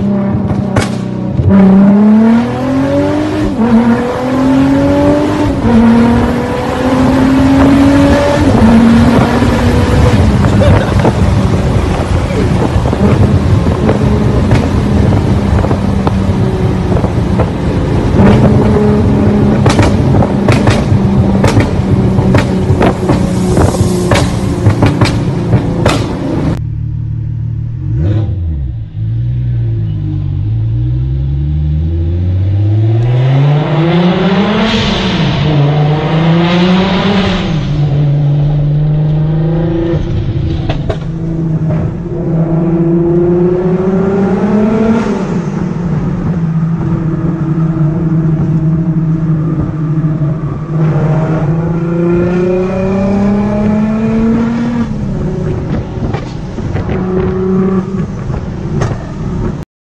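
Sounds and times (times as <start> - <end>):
car engine accelerating: 0.0 - 59.6.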